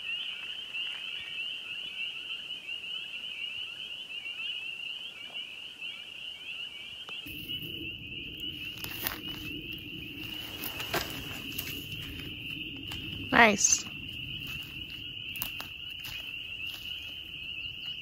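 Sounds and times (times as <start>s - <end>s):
frogs peeping chorus: 0.0s - 18.0s.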